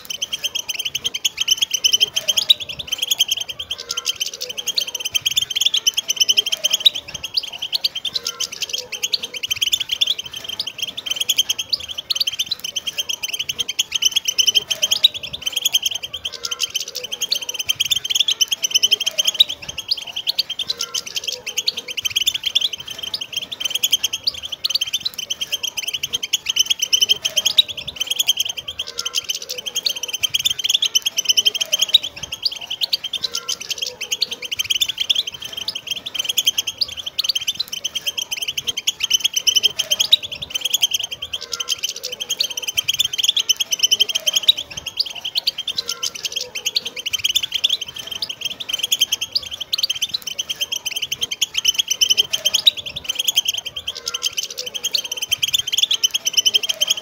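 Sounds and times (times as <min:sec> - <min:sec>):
birds twittering and chirping: 0:00.0 - 0:57.0.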